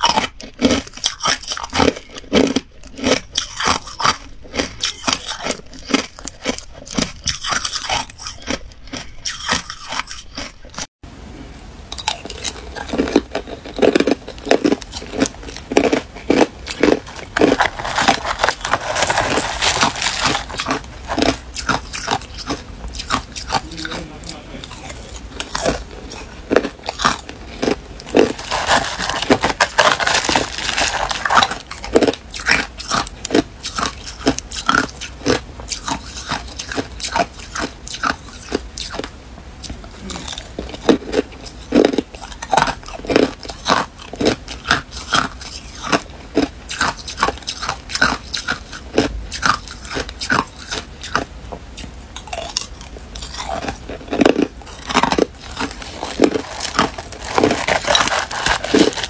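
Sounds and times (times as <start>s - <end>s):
crushed ice being chewed: 0.0s - 10.9s, 11.9s - 59.0s.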